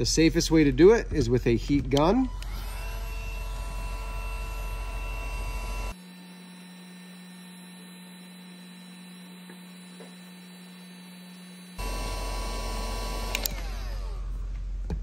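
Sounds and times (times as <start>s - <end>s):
heat gun fan whine: 2.0s - 14.5s.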